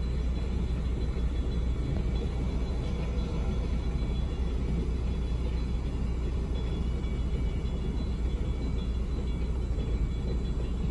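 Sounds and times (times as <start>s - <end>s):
passenger train rumbling past: 0.0s - 10.9s.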